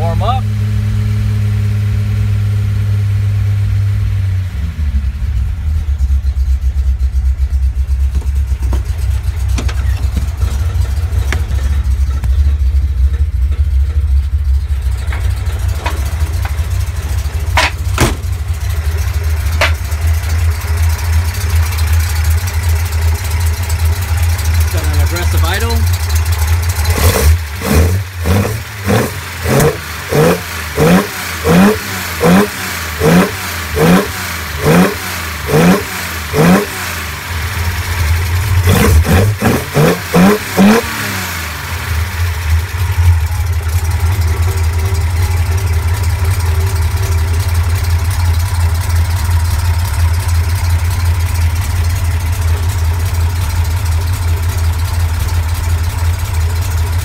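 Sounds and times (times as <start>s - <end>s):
car engine idling: 0.0s - 57.0s
car engine revving: 0.0s - 57.0s.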